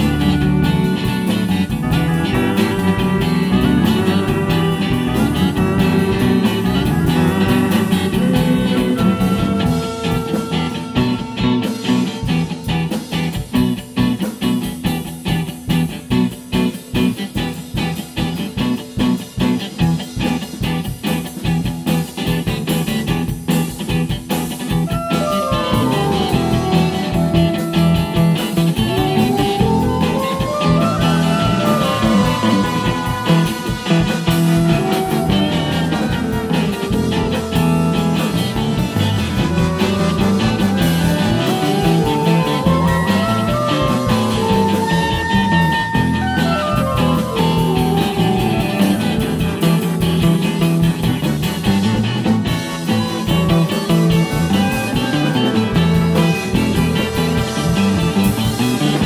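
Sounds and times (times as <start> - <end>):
instrumental jazz band: 0.0 - 59.0.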